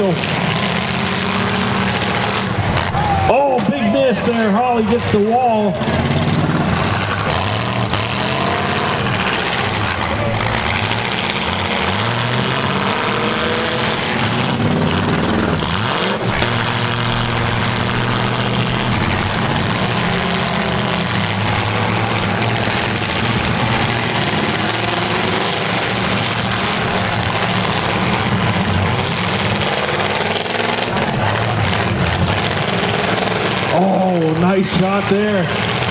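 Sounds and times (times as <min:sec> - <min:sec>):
car engines revving hard: 0:00.0 - 0:35.9.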